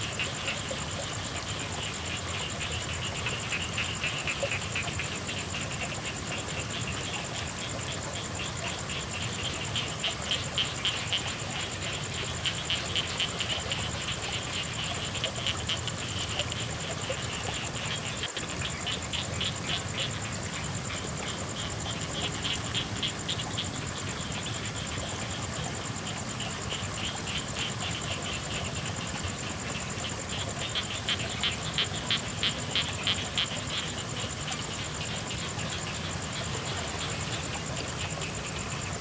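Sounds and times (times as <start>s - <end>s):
frogs croaking: 0.0s - 39.0s
rain patter: 0.0s - 39.0s.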